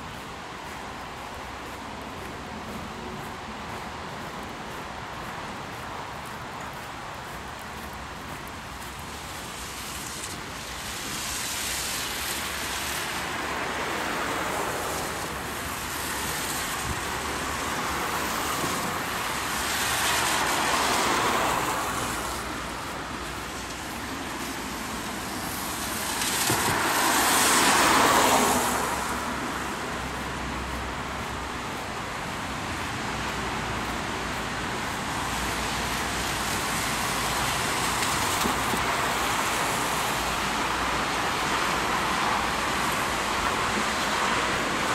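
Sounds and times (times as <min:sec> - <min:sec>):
tyre hiss on wet road: 0:00.0 - 0:44.9.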